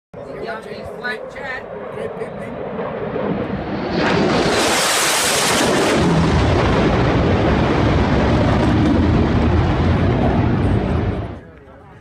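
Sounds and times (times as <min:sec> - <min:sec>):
fighter jet roar: 0:00.2 - 0:11.5.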